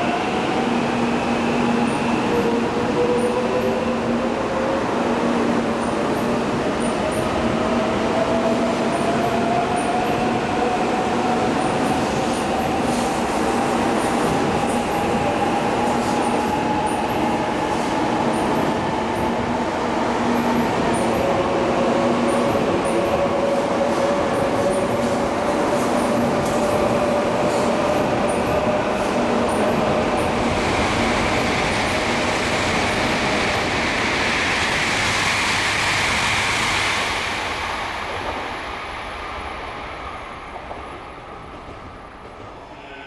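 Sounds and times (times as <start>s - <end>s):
train rolling noise: 0.0s - 43.0s.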